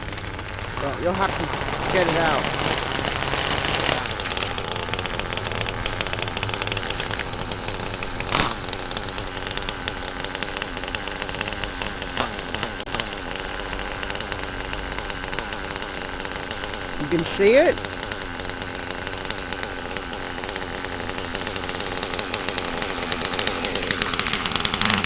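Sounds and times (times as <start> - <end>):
small nitro engine running: 0.0 - 25.0.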